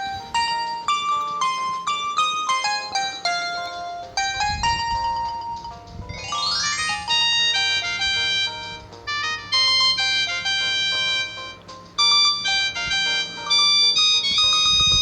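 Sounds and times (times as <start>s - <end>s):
electronic phone ringtone melody: 0.0s - 15.0s.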